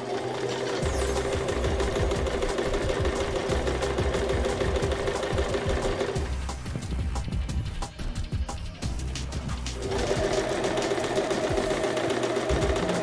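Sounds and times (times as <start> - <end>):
sewing machine running: 0.0 - 7.3, 9.5 - 13.0.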